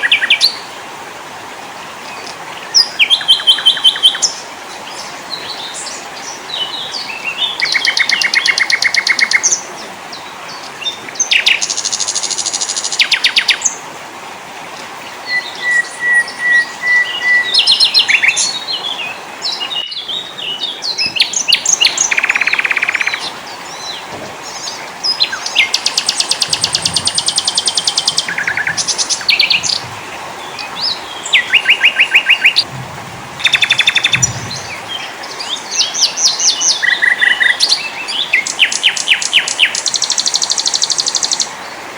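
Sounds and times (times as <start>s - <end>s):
songbirds trilling and chirping: 0.0s - 0.8s, 1.7s - 13.9s, 14.7s - 41.9s.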